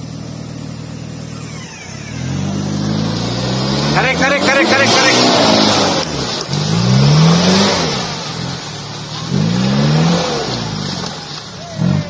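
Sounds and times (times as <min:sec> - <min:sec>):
diesel engine revving: 0:00.0 - 0:12.0
tyres churning through mud: 0:00.0 - 0:12.0.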